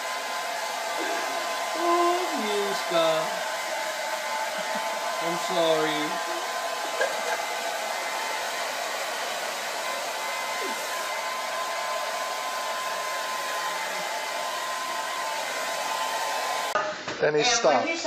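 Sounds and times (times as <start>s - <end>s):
hair dryer running: 0.0s - 16.8s.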